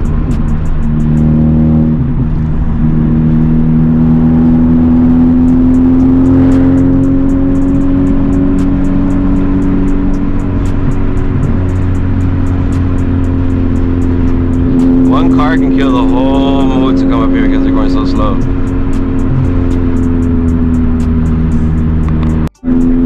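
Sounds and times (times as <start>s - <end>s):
car engine droning: 0.0s - 23.0s.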